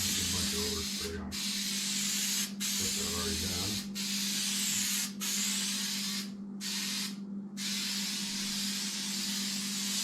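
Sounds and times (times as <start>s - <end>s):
aerosol spray hissing: 0.0s - 10.0s
steady low hum: 0.0s - 10.0s.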